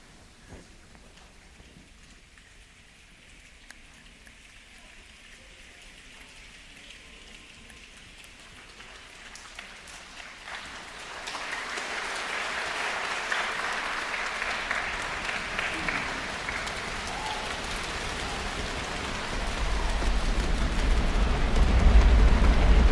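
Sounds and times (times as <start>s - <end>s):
audience imitating rain: 0.7s - 22.9s.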